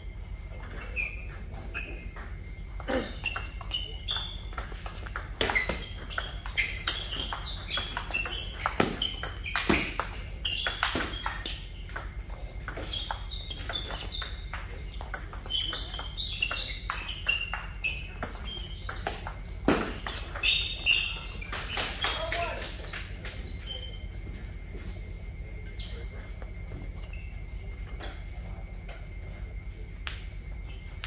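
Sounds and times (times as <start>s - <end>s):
shoes squeaking on floor: 0.2s - 29.2s.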